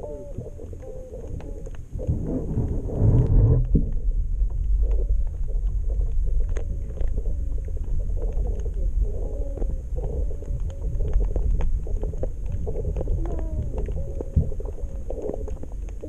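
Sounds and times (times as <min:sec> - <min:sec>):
low underwater rumble: 0:00.0 - 0:16.0.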